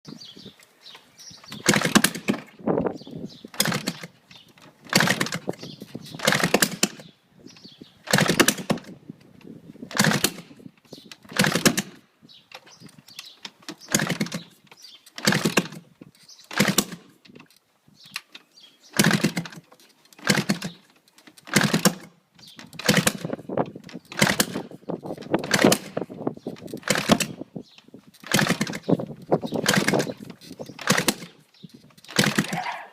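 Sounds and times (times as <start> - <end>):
motorcycle engine turning over: 1.4 - 7.2, 8.0 - 9.1, 9.8 - 32.8.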